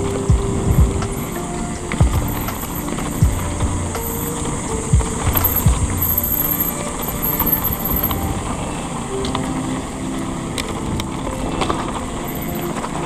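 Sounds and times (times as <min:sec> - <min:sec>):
bike rolling over dirt: 0:00.0 - 0:13.0.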